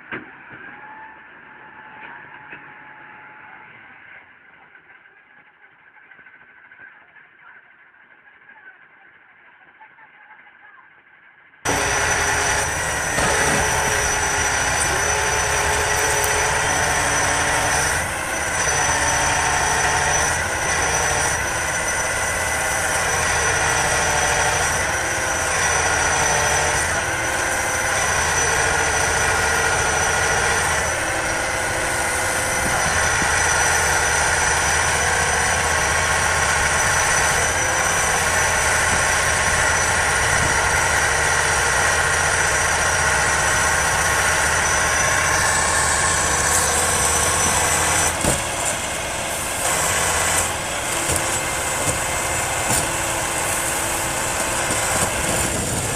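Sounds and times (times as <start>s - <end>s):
heavy engine running: 0.0s - 10.1s, 11.6s - 55.9s.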